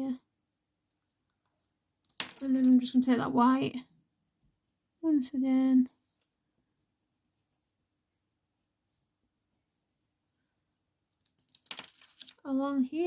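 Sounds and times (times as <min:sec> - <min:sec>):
pencil scratching on paper: 0:00.0 - 0:10.9.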